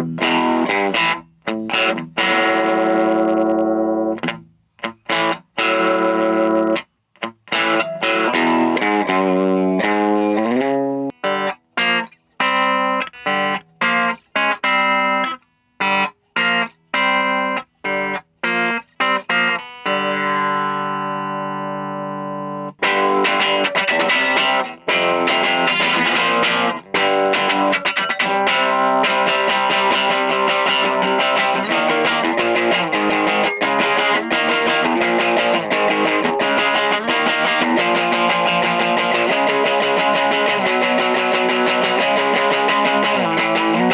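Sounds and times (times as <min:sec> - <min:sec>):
electric guitar crunch chords: 0:00.0 - 0:43.9.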